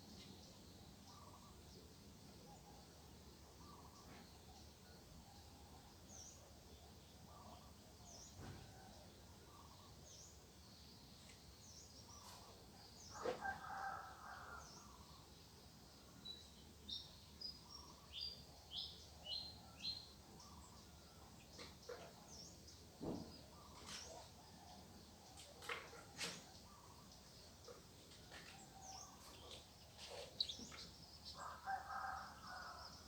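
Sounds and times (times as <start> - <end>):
faint songbirds chirping: 0.0 - 33.0.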